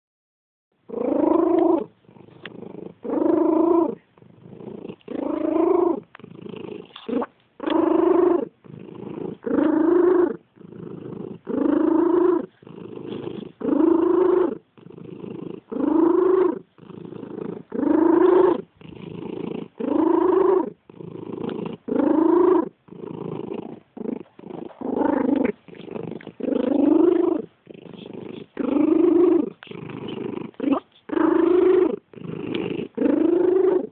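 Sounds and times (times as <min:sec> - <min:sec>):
cat purring with wheeze: 0:00.8 - 0:33.9.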